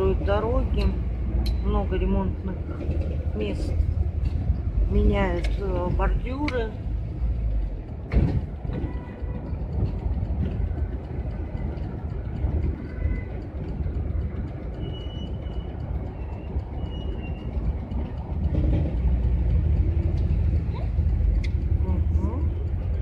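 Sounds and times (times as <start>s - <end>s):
engine and road rumble: 0.0s - 23.0s
van cab rattling: 0.0s - 23.0s.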